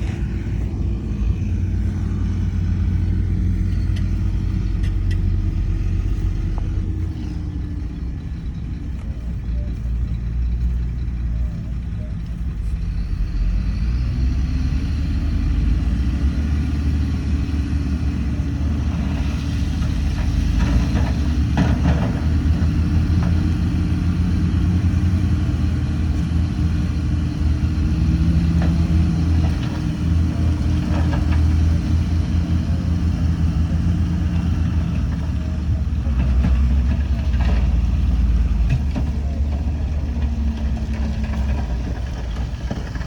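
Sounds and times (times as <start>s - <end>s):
heavy diesel engine revving: 0.0s - 43.0s.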